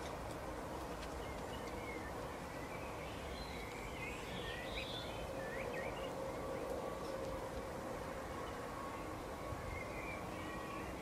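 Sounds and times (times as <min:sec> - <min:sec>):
small birds chirping: 0:00.0 - 0:07.6, 0:08.2 - 0:11.0
outdoor background noise: 0:00.0 - 0:11.0.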